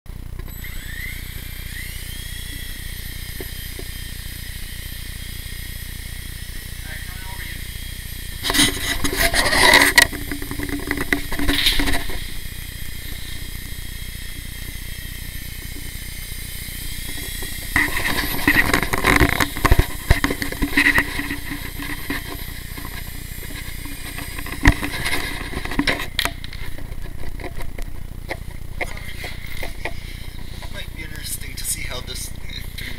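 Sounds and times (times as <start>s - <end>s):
rc helicopter rotors whining: 0.1s - 32.9s.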